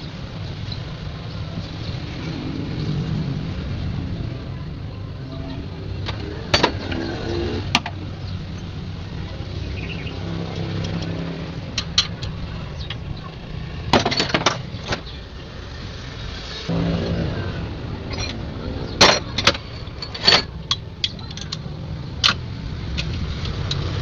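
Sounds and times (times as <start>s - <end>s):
low motor rumble: 0.0s - 24.0s.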